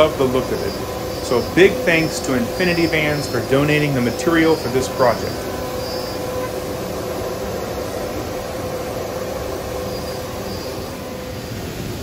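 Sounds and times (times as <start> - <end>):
cnc router rushing noise: 0.0 - 12.0
faint steady hum: 0.0 - 12.0.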